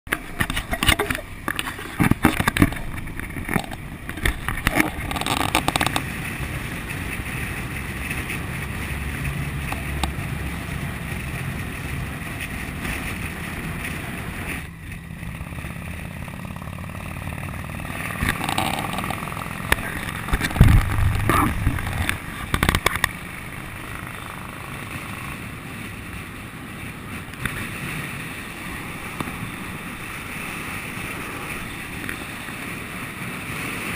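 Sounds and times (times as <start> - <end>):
wind buffeting microphone: 0.1 - 15.7, 17.2 - 33.9
motorcycle engine running: 0.1 - 33.9.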